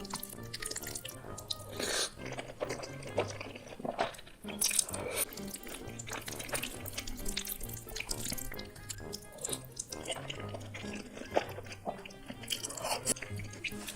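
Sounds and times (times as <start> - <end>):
background music: 0.0 - 13.9
wet chewing and mouth clicks: 0.0 - 13.9.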